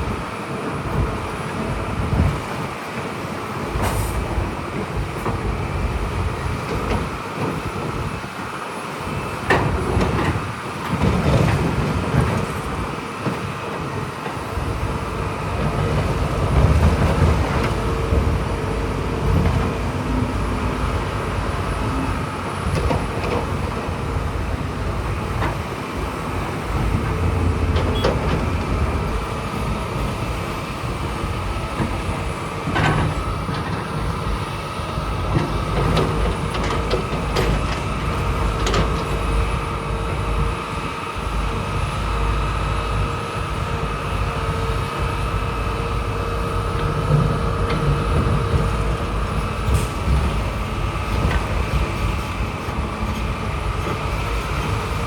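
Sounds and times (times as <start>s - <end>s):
bulldozer diesel engine rumble: 0.0s - 55.0s
steel tracks clanking: 0.0s - 55.0s.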